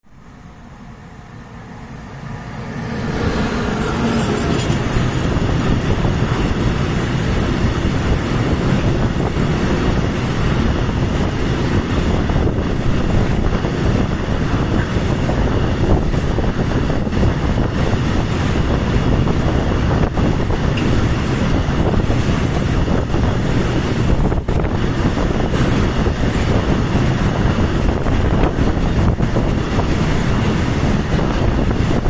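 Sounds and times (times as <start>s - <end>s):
freight train passing: 0.0s - 32.0s.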